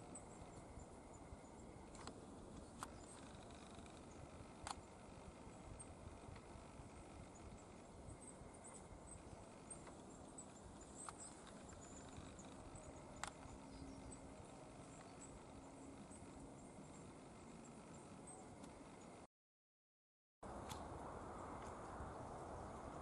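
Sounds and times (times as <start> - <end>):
faint high bird chirps: 0.0 - 19.3.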